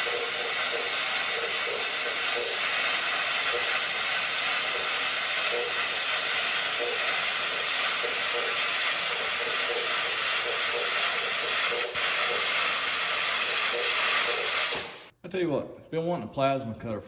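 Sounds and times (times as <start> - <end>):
plasma cutter hissing: 0.0 - 15.1.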